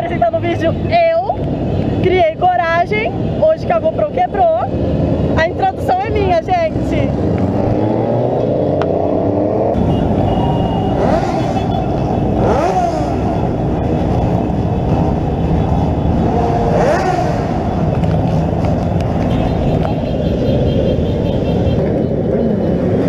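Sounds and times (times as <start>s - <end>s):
many motorcycle engines revving: 0.0s - 23.0s.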